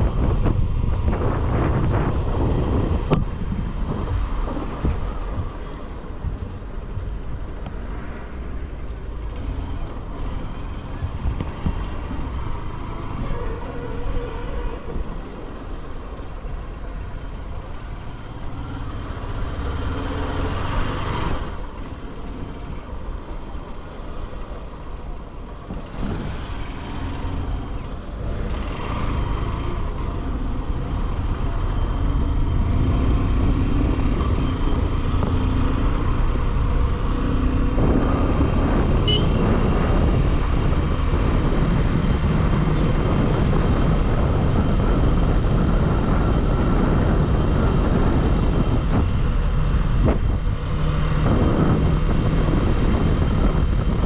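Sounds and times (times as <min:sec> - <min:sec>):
motorcycle engine riding: 0:00.0 - 0:54.0
wind noise: 0:00.0 - 0:54.0.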